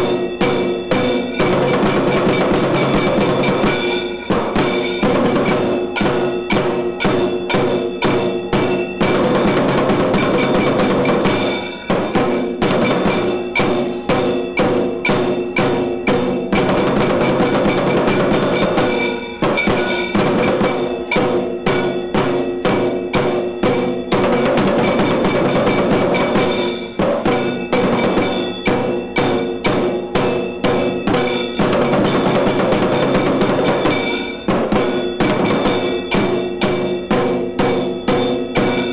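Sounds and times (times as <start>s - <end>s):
held tones ringing: 0.0s - 38.9s
percussion ensemble fast beat: 0.0s - 38.9s.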